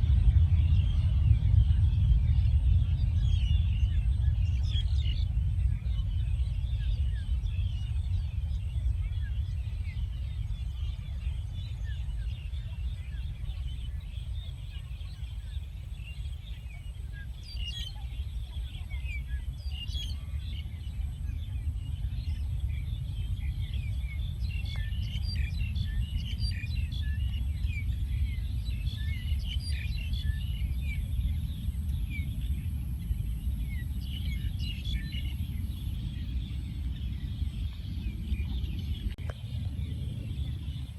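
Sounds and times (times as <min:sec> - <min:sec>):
small birds chirping: 0:00.0 - 0:40.9
steady low rumble: 0:00.0 - 0:40.9.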